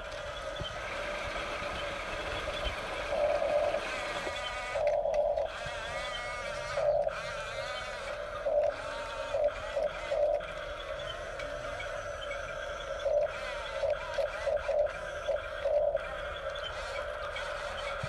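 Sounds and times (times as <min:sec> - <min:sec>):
toy bulldozer motors whining: 0:00.0 - 0:18.0.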